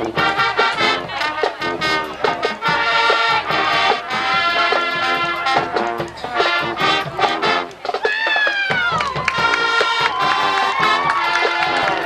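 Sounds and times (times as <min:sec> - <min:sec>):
marching band brass: 0:00.0 - 0:12.0
steady drum beat: 0:00.0 - 0:12.0.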